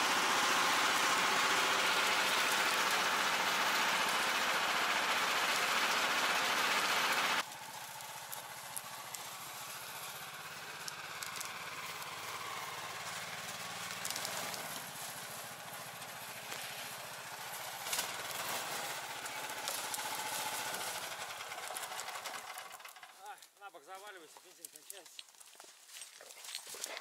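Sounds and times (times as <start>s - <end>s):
tracked snow vehicle engine running: 0.0s - 23.4s.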